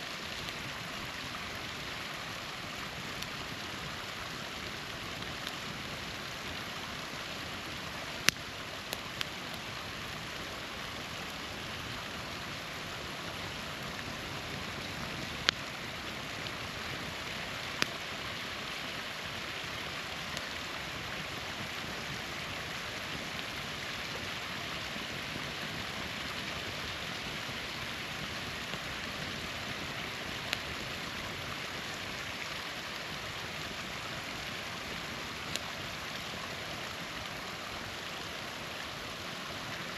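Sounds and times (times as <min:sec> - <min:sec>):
campfire pops and crackles: 0:00.0 - 0:39.9
small waterfall rushing: 0:00.0 - 0:39.9.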